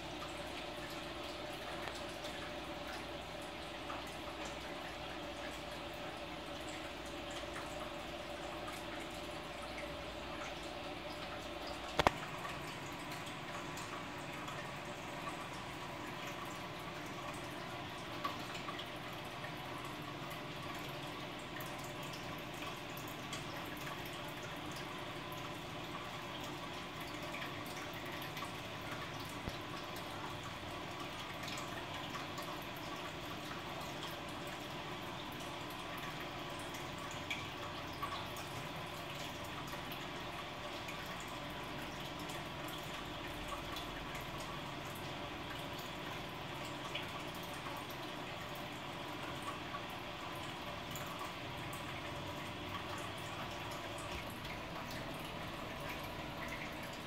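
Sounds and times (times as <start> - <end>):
aquarium air bubbling: 0.0 - 57.0
small water drips: 0.0 - 57.0.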